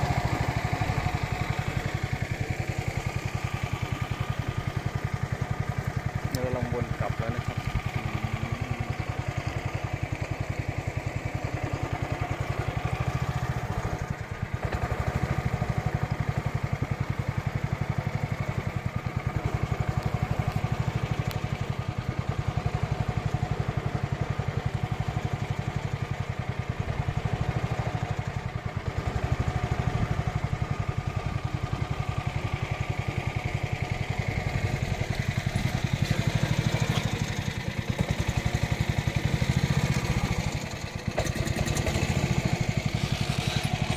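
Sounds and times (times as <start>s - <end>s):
boat engine puttering: 0.0s - 26.0s, 26.6s - 43.9s.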